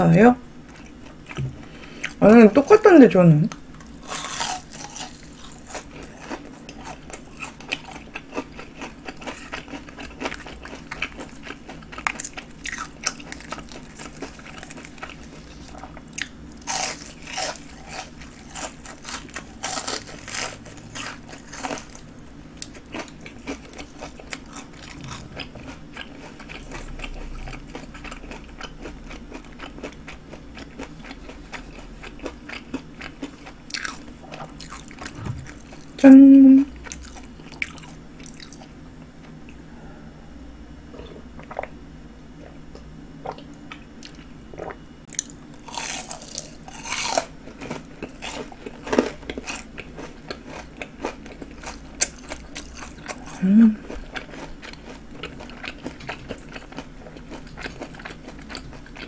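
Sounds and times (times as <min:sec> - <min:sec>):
crunching and chewing fried prawn: 0:03.5 - 0:36.0, 0:36.8 - 0:39.6, 0:42.7 - 0:59.0.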